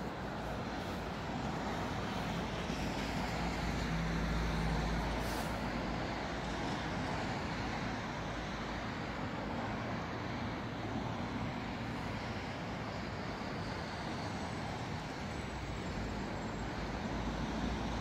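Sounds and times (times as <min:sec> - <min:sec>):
road traffic passing cars: 0:00.0 - 0:18.0.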